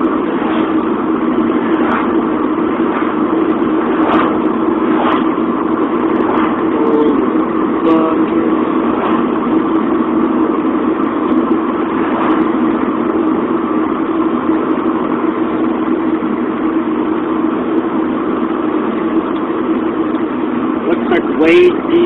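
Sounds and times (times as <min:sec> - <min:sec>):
road and engine noise inside car: 0:00.0 - 0:22.0.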